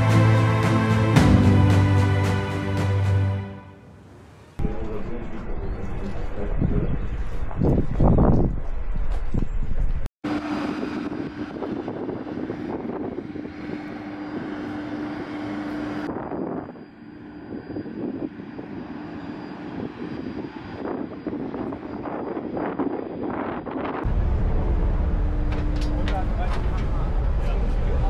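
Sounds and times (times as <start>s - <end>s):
aircraft engine droning: 0.0s - 9.4s, 10.2s - 28.0s.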